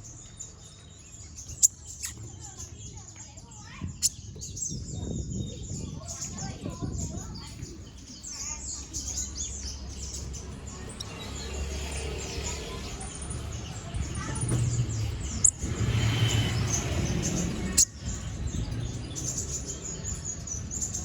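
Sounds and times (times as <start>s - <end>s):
songbird chattering chirps: 0.0s - 21.0s.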